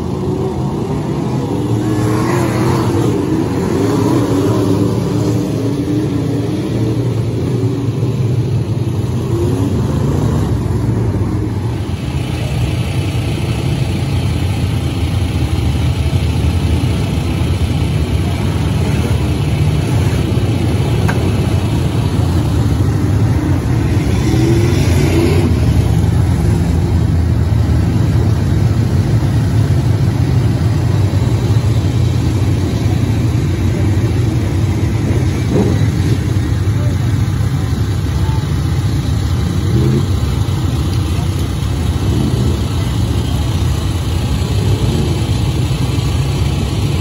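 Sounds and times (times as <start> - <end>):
race car engines roaring: 0.0 - 47.0.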